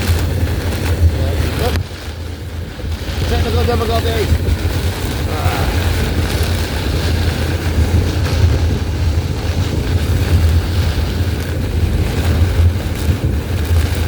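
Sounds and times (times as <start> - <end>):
heavy rain: 0.0 - 14.0
wind noise: 0.0 - 14.0.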